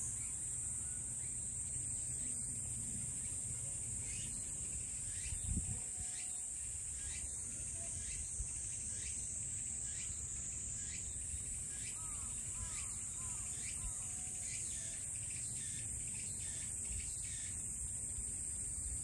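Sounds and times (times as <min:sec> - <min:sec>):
short insect call: 0:00.0 - 0:19.0
shrill insect chorus: 0:00.0 - 0:19.0.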